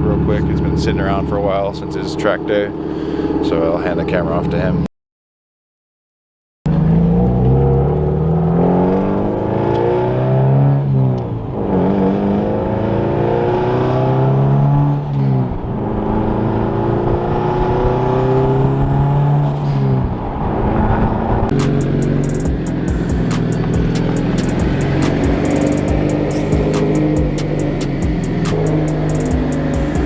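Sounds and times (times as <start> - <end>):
car engine accelerating hard: 0.0 - 4.9, 6.7 - 30.0.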